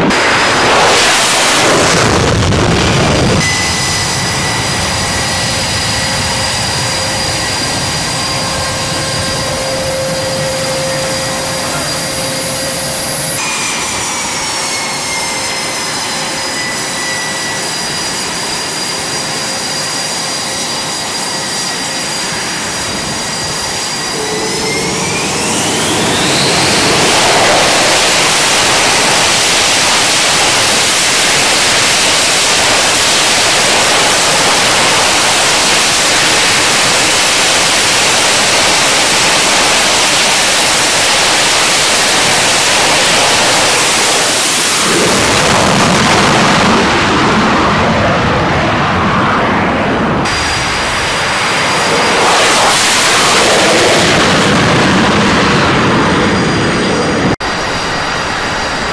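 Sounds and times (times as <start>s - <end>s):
jet engines whining and roaring: 0.0s - 58.9s.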